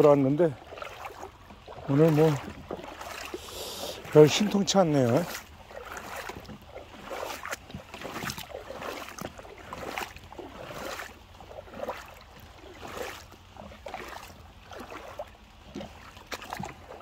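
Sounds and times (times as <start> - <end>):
footsteps splashing in water: 0.0 - 17.0.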